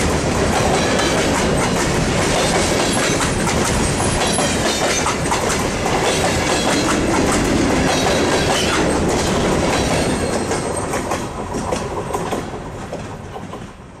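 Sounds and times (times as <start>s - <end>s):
train wheels clacking on rails: 0.0s - 14.0s.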